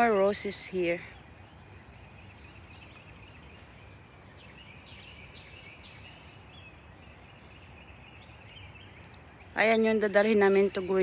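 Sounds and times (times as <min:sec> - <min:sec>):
bird chirping: 0:00.0 - 0:11.0
outdoor background hiss: 0:00.0 - 0:11.0.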